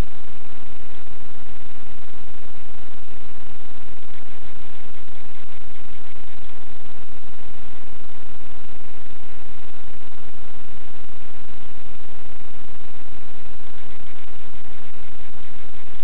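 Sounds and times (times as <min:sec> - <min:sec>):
static hiss with buzz: 0:00.0 - 0:16.0.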